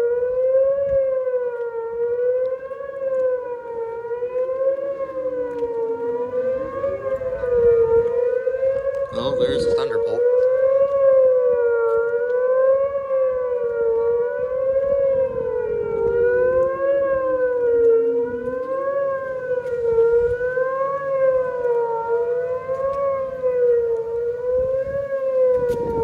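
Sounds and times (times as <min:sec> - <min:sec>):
siren winding down and up: 0:00.0 - 0:26.0
warbling warning siren: 0:00.0 - 0:26.0.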